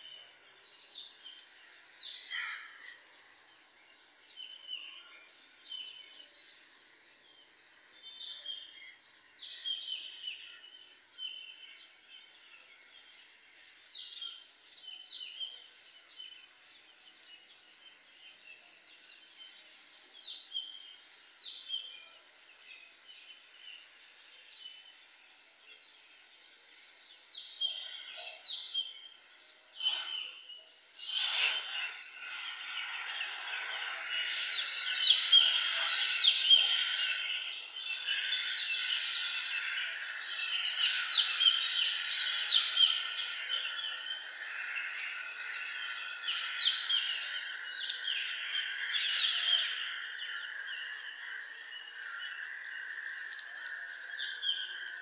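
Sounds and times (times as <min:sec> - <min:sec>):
bird chirping: 0:00.0 - 0:55.0
faint steady hiss: 0:00.0 - 0:55.0.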